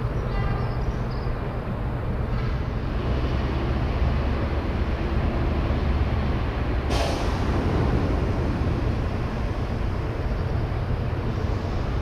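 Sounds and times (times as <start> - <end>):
ship diesel engines rumbling: 0.0 - 12.0.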